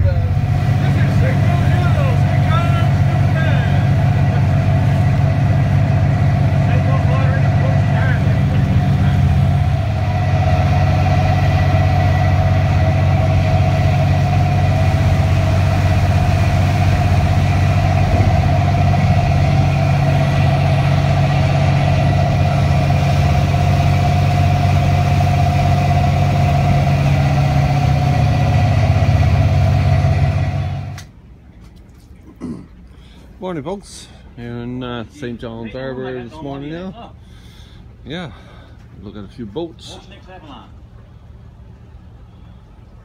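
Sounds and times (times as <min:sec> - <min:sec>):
boat engine running: 0:00.0 - 0:36.4.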